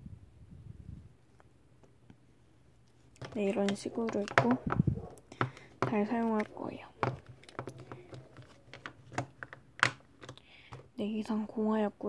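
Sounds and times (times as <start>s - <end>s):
low rustling handling noise: 1.2s - 11.0s.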